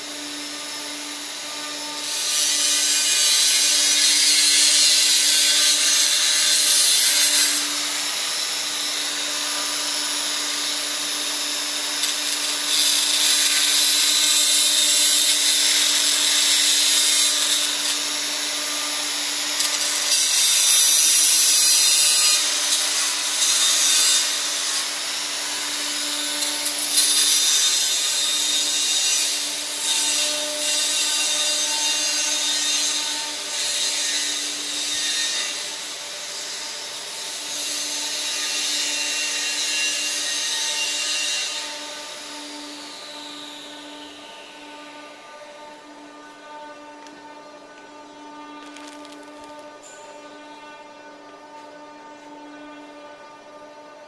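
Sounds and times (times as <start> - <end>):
angle grinder grinding steel: 0.0 - 52.9.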